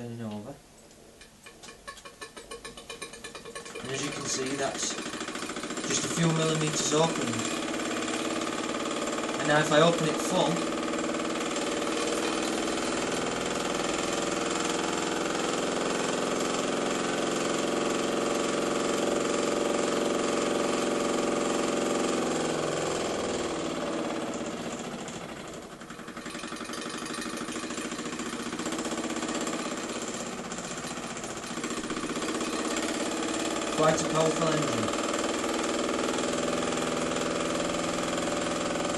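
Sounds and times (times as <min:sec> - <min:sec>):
model steam engine running: 0:02.1 - 0:38.9.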